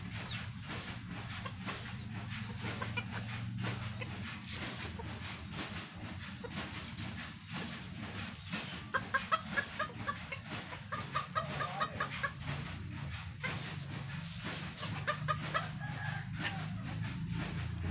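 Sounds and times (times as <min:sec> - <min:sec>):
chickens clucking: 0:00.0 - 0:17.9
steady low hum: 0:00.0 - 0:17.9.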